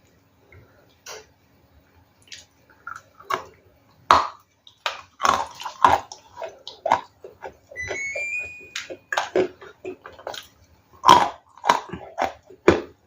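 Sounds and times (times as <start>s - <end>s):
ice crunching being chewed: 2.2s - 13.0s.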